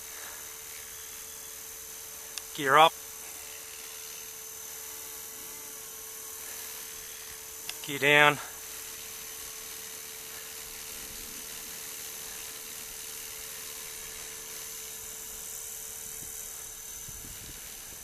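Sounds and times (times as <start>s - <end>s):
rc helicopter humming: 0.0s - 18.0s.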